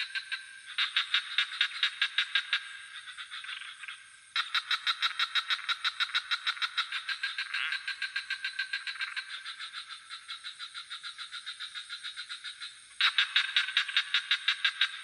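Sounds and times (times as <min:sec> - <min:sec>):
crickets chirring: 0:00.0 - 0:15.0
frogs calling in pulsed trill: 0:00.0 - 0:15.0.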